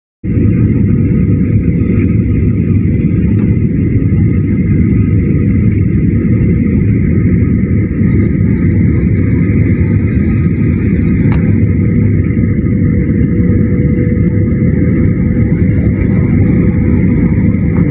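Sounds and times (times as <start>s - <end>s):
airplane cabin engine rumble: 0.2s - 17.9s
faint steady whine: 0.3s - 17.9s.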